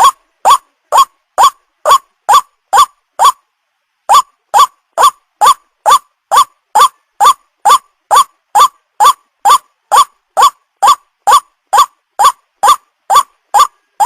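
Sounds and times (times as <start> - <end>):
bird croaking call: 0.0 - 3.4, 4.1 - 14.0.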